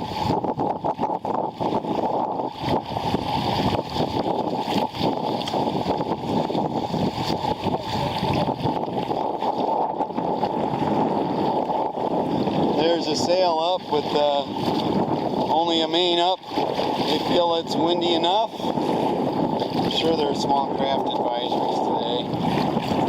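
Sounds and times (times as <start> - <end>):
water splashing against kayak hull: 0.0 - 23.0.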